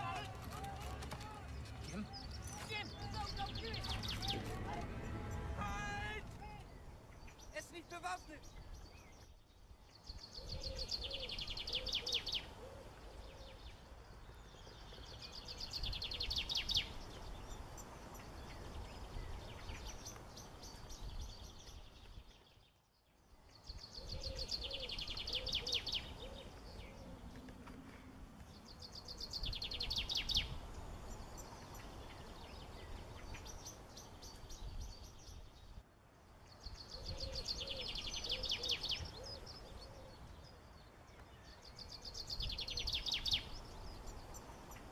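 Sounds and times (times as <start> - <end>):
birds singing fast trills: 0.0 - 27.3, 28.5 - 44.9.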